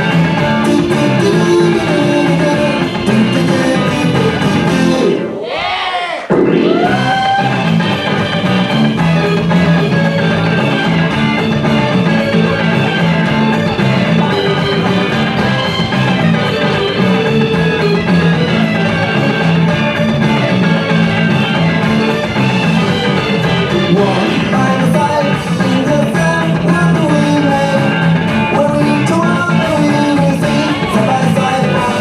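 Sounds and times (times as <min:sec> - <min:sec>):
loud rock music with guitar: 0:00.0 - 0:05.4, 0:06.3 - 0:32.0.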